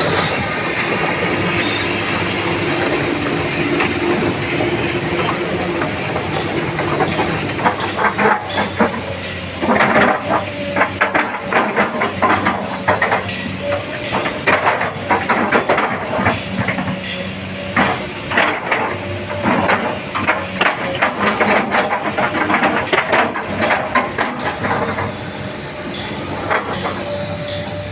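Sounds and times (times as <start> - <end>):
excavator engine hum: 0.0 - 27.9.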